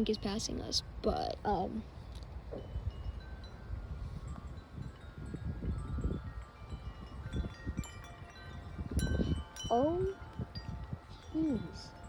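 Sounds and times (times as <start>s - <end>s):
wind gusts on microphone: 0.0s - 12.0s
wind chimes ringing: 2.0s - 12.0s.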